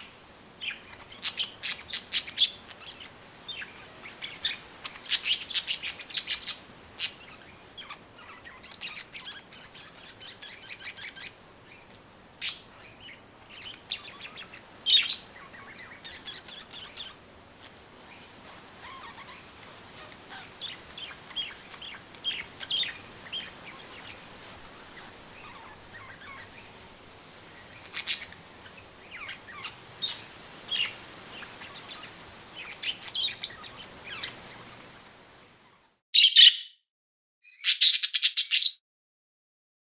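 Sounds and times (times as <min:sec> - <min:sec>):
faint outdoor background: 0:00.0 - 0:36.8
small birds chirping: 0:00.0 - 0:36.8, 0:37.4 - 0:38.8.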